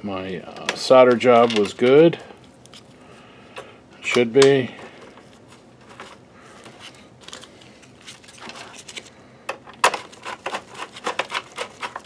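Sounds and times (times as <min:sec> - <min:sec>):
faint handling noise: 0:00.5 - 0:12.0.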